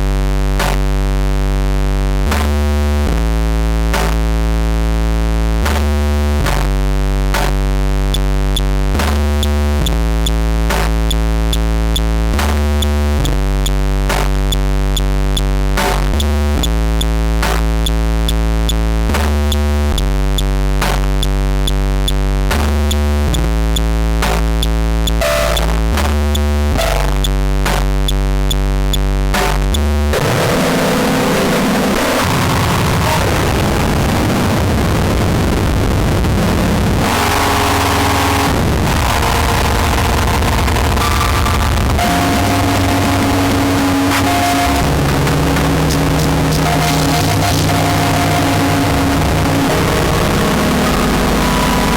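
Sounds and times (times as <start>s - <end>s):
synthesizer bass notes: 0.0s - 51.9s.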